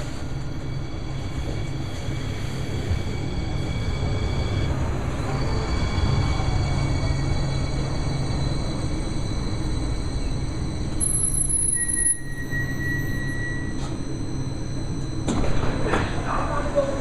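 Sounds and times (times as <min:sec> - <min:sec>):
high brake squeal: 0:00.0 - 0:17.0
light rail wheels rumbling: 0:00.0 - 0:17.0
thin whine: 0:00.0 - 0:17.0.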